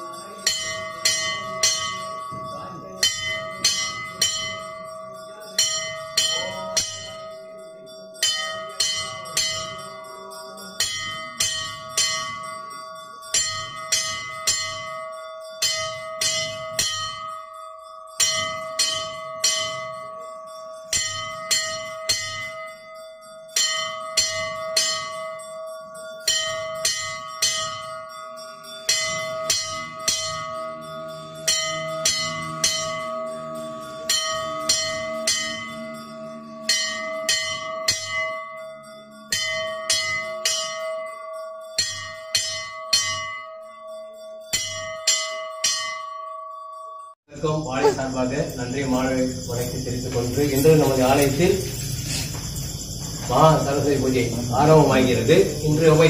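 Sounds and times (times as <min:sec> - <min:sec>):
steady ringing tone: 0:00.0 - 0:56.0
temple bells ringing: 0:00.0 - 0:56.0.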